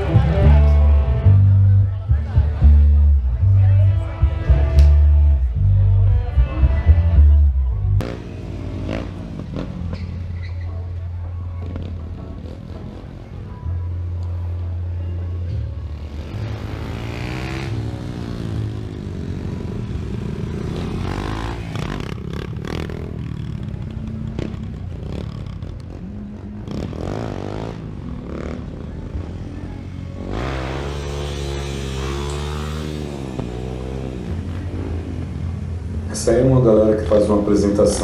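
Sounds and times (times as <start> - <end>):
motorcycle engines revving: 0.0 - 14.3, 15.4 - 38.0.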